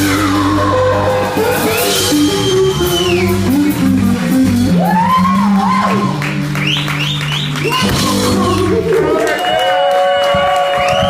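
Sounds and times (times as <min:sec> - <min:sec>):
electric guitar bent notes: 0:00.0 - 0:09.1
blues band playing: 0:00.0 - 0:11.0.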